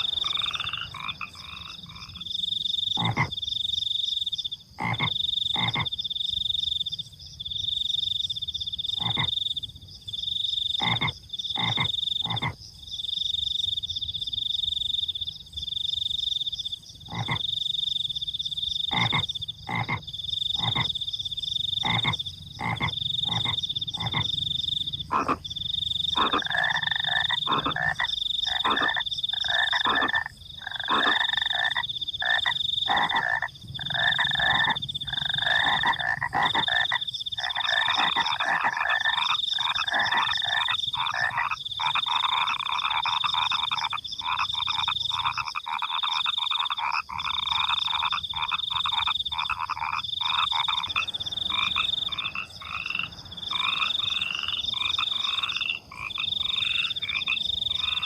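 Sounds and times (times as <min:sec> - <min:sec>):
crickets trilling: 0:00.0 - 0:58.0
frogs croaking: 0:00.0 - 0:58.0.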